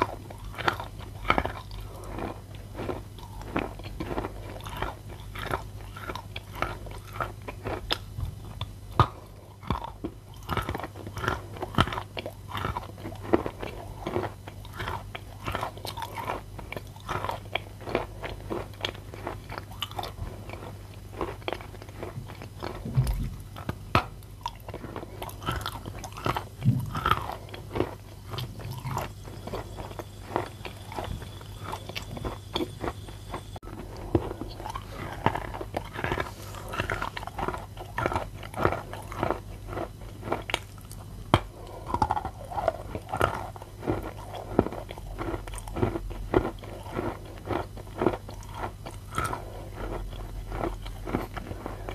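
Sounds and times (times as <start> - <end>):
chewing chalk crunches: 0.0 - 51.9
steady low hum: 0.0 - 51.9.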